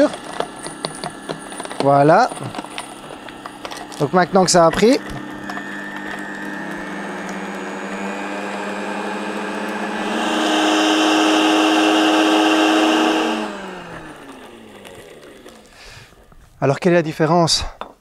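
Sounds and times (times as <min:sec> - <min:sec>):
blender motor whining: 0:00.0 - 0:16.4.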